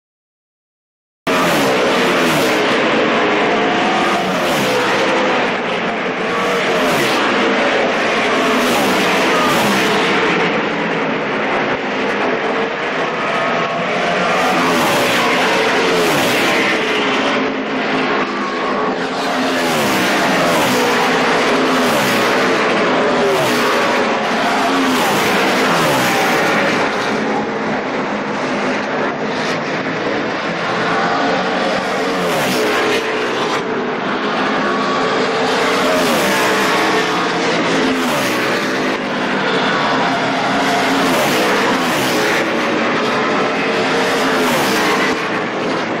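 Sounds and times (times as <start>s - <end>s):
din of race cars: 1.3s - 46.0s
race cars passing by: 1.3s - 46.0s.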